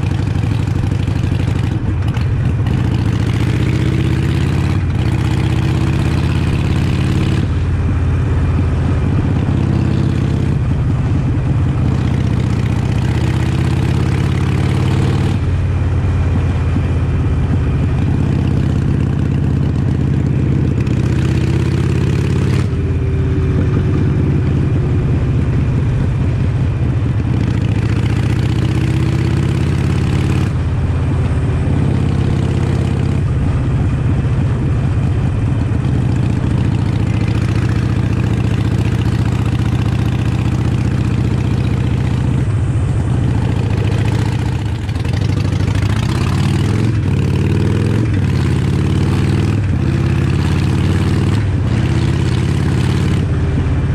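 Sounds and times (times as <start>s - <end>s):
motorcycle engine riding: 0.0s - 53.9s.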